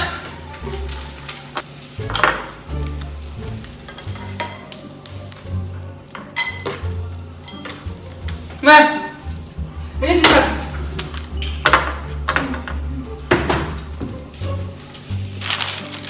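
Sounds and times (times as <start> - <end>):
utensils clinking against pan: 0.0 - 3.0, 3.7 - 5.4, 6.1 - 9.3, 10.0 - 16.0
faint frying sizzle: 0.0 - 16.0.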